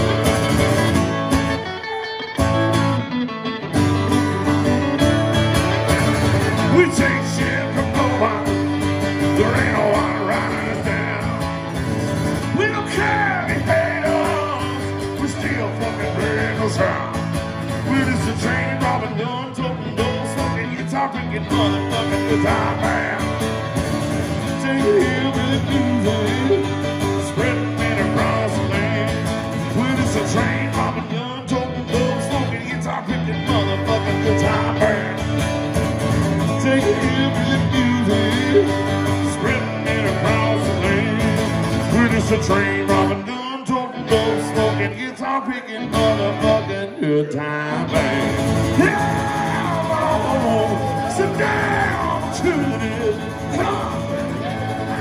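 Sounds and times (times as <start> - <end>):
acoustic guitars strumming: 0.0 - 55.0
man singing: 5.7 - 55.0.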